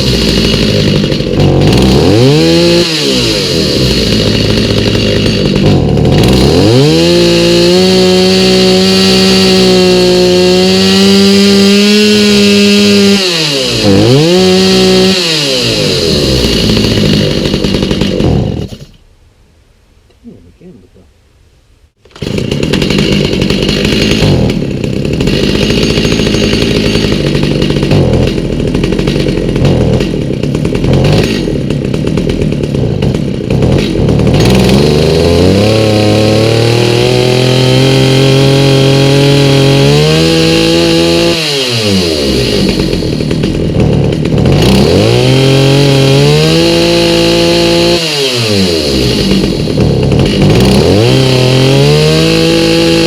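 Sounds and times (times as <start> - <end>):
chainsaw engine revving: 0.0 - 19.0, 22.0 - 53.0.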